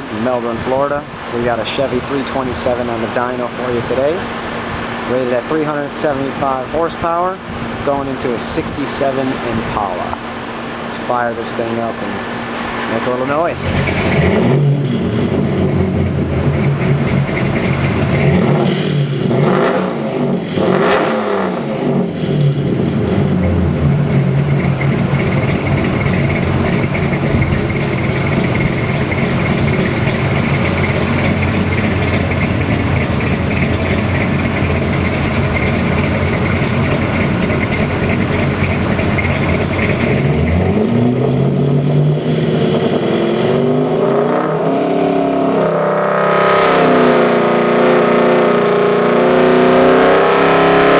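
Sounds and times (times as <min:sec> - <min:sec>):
engine revving on dyno: 0:00.0 - 0:50.9.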